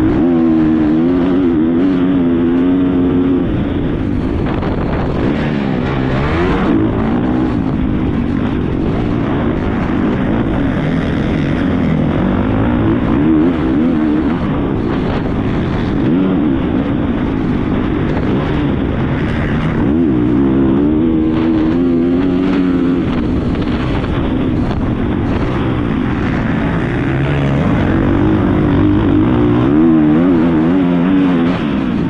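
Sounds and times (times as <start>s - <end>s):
heavy wind noise: 0.0s - 32.0s
motocross bike engine revving: 0.0s - 32.0s
track noise: 0.0s - 32.0s.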